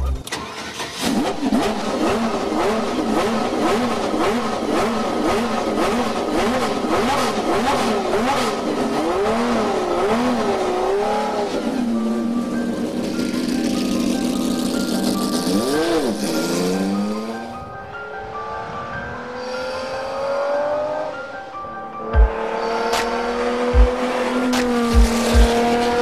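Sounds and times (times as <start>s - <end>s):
racing engine revving and idling: 0.0s - 17.5s, 22.0s - 26.0s.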